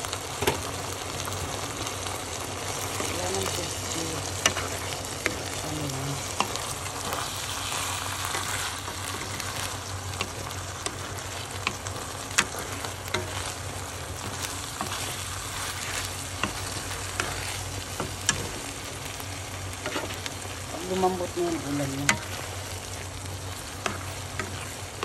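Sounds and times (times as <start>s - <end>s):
noodles sizzling in a pan: 0.0s - 25.0s.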